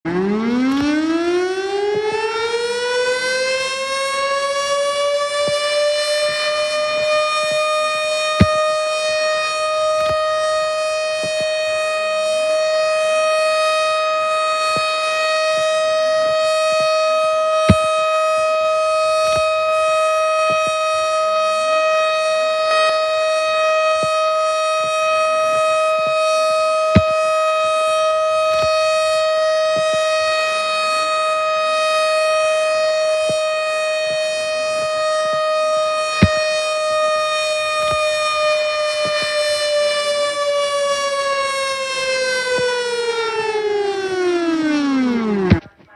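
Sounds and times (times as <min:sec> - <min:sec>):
civil defense siren: 0:00.0 - 0:45.9.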